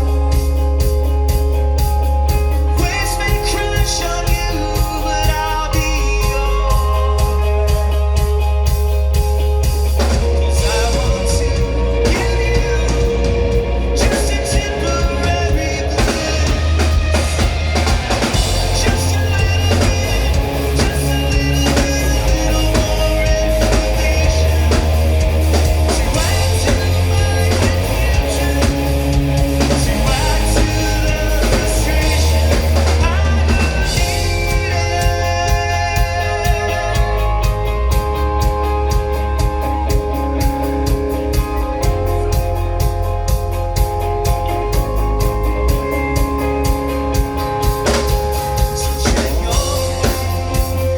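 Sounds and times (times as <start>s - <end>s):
bass guitar: 0.0s - 50.9s
drums: 0.0s - 50.9s
electric guitar: 0.0s - 50.9s
person singing: 2.5s - 8.6s, 10.2s - 40.5s, 44.3s - 50.9s.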